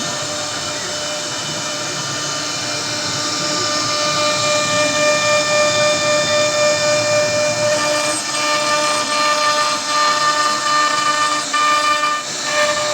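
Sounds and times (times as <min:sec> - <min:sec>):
bit carving wood: 0:00.0 - 0:12.9
router spindle whining: 0:00.0 - 0:12.9.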